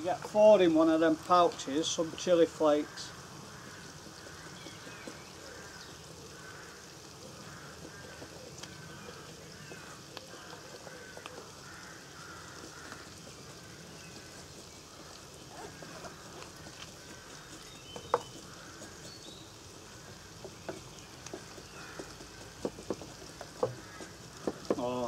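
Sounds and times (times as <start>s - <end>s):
food sizzling in a frying pan: 0.0s - 25.0s
faint bird calls: 2.7s - 25.0s.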